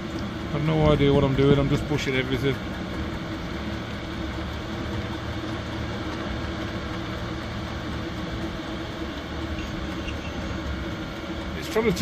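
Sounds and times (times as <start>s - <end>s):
diesel air heater droning: 0.0s - 12.0s.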